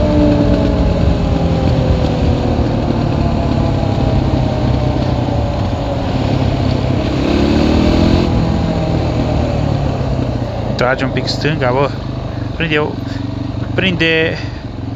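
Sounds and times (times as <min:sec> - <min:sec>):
quad bike engine running: 0:00.0 - 0:14.9.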